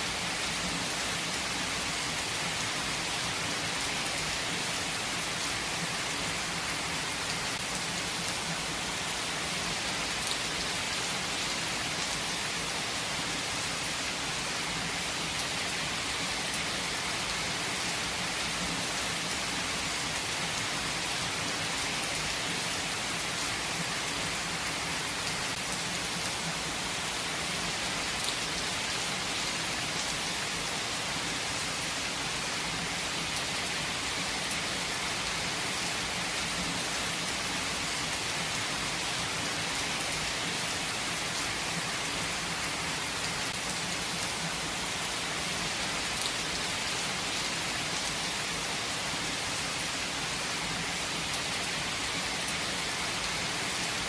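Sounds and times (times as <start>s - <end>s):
rain on ground and leaves: 0.0s - 54.0s.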